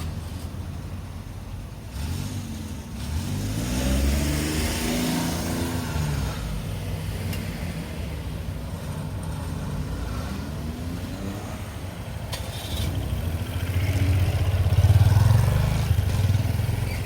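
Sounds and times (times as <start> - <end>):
low traffic hum: 0.0 - 17.0.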